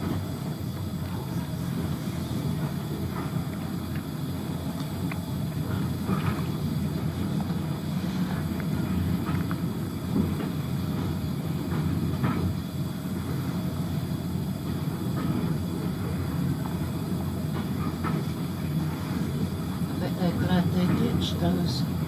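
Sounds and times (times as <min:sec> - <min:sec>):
railway carriage rumble: 0:00.0 - 0:22.0.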